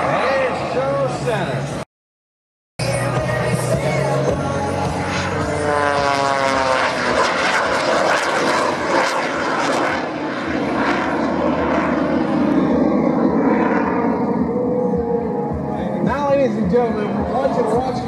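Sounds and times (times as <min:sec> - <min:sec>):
propeller plane engine at high power: 0:00.0 - 0:01.8, 0:02.9 - 0:17.9.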